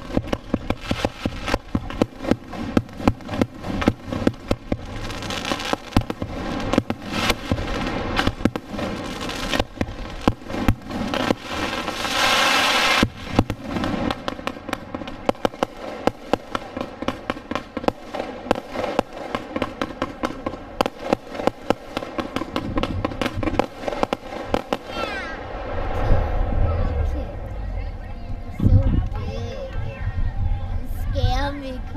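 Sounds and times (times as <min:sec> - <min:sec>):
firework hiss: 0:00.0 - 0:27.7
firework bangs: 0:00.0 - 0:29.8.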